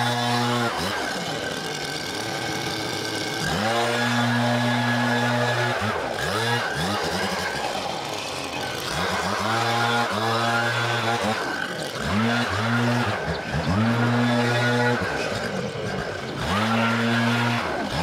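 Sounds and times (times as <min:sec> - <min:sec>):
leaf blower engine revving: 0:00.0 - 0:18.0.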